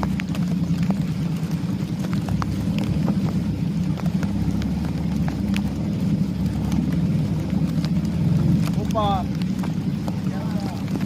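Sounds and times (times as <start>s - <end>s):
boat motor droning: 0.0s - 11.0s
raindrops ticking: 0.0s - 11.0s.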